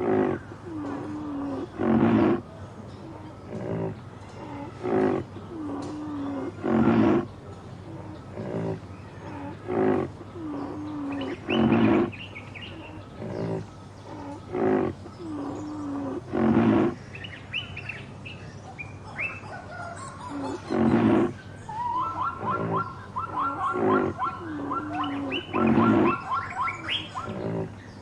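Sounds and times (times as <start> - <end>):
soft gliding animal calls: 0.0 - 17.0, 19.3 - 27.8
large animal deep calls: 0.0 - 17.1, 20.2 - 28.0
small birds chirping: 0.0 - 28.0.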